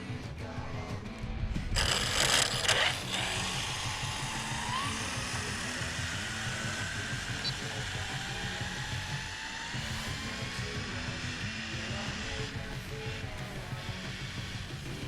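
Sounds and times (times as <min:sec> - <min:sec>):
background music: 0:00.0 - 0:15.0
loud burst of noise: 0:01.5 - 0:15.0
electric motor whine: 0:01.8 - 0:15.0.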